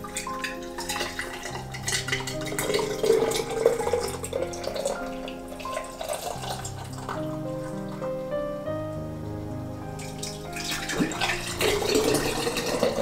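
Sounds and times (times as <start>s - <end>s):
liquid pouring into glass bottle: 0.0s - 7.8s, 10.0s - 13.0s.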